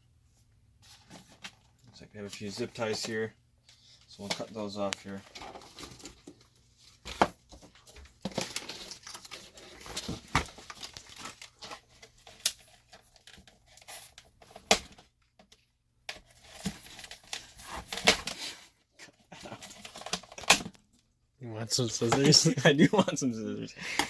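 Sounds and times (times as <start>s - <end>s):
packaging rustling and crinkling: 0.8s - 21.0s.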